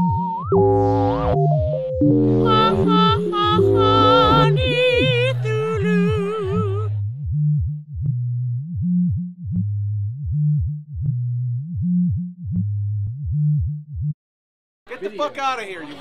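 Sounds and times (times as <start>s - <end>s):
pulsing synthesizer bass line: 0.0s - 14.1s.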